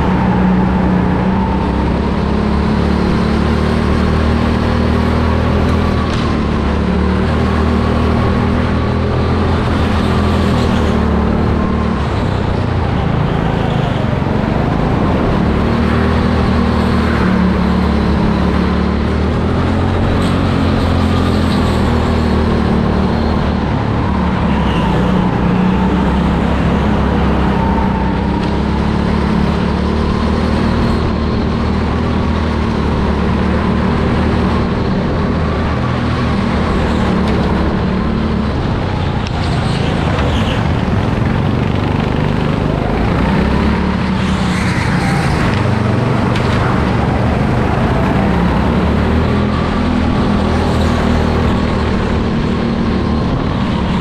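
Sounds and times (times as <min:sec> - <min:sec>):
go-kart motor running: 0:00.0 - 0:54.0.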